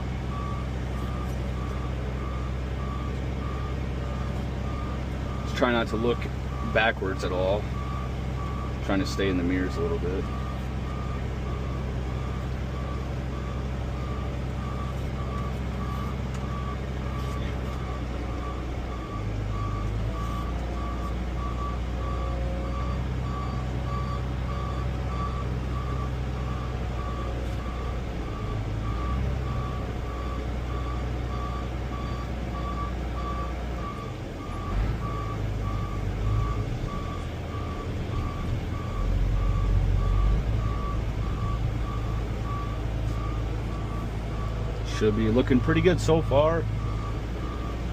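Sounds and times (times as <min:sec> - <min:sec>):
tractor diesel engine running: 0:00.0 - 0:47.9
backup alarm beeping: 0:00.2 - 0:47.9.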